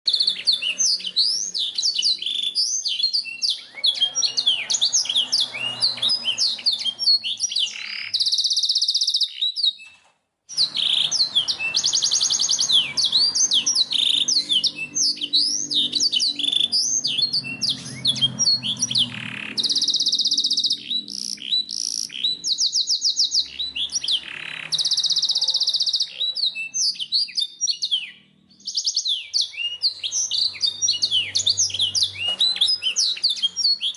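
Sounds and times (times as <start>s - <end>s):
canary singing chirps and whistles: 0.0s - 33.9s.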